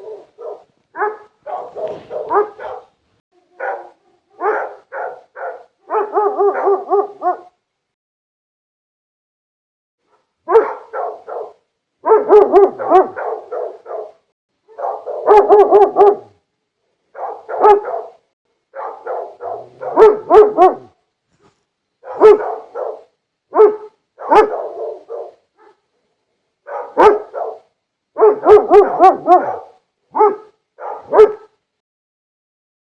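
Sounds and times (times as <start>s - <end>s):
large dog barking: 0.0s - 7.6s, 10.1s - 16.4s, 17.1s - 21.0s, 22.0s - 26.0s, 26.6s - 31.6s.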